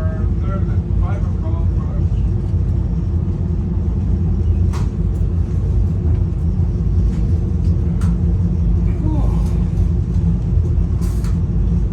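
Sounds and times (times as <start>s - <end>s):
rail car rumbling on track: 0.0s - 11.9s.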